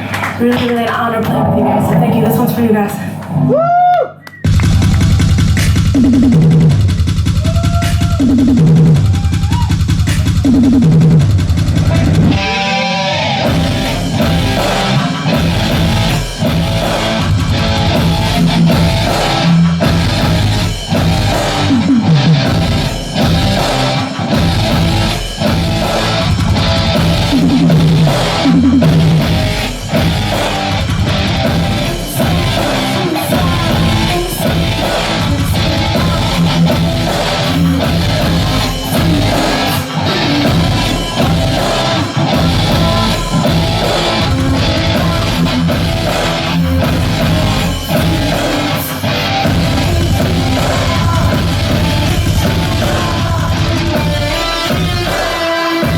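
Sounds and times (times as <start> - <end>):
distorted electric guitar riff: 0.0 - 55.9
heavy drum beat: 4.5 - 12.7, 13.4 - 55.9.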